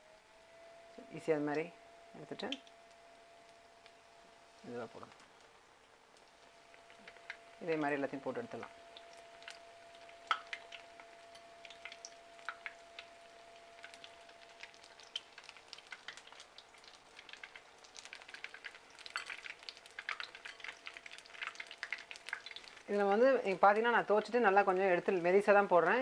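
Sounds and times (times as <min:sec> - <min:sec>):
battered slices frying in oil: 0:01.2 - 0:26.0.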